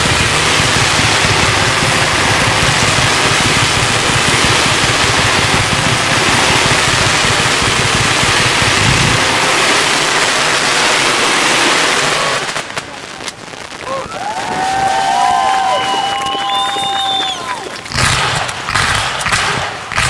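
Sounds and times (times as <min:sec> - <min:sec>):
fireworks roar and hiss: 0:00.0 - 0:20.0.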